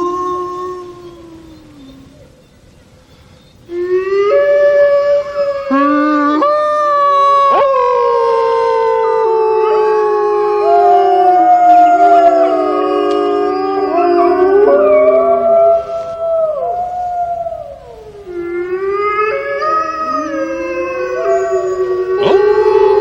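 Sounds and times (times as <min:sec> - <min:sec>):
wolves howling: 0:00.0 - 0:02.4, 0:03.7 - 0:23.0.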